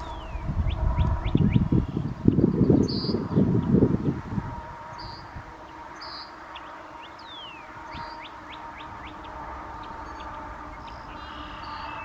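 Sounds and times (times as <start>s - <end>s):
small birds chirping: 0.0s - 4.2s, 4.8s - 12.0s.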